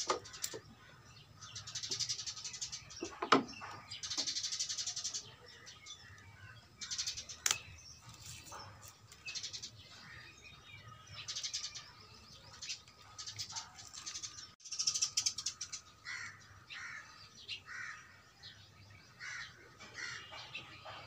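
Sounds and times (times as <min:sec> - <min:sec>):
birds chattering: 0:00.0 - 0:21.0
harsh bird calls: 0:00.0 - 0:21.0.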